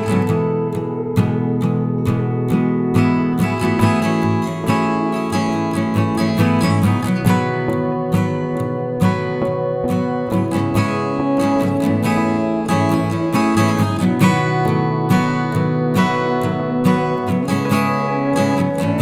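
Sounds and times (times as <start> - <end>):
strummed acoustic guitar music: 0.0 - 19.0.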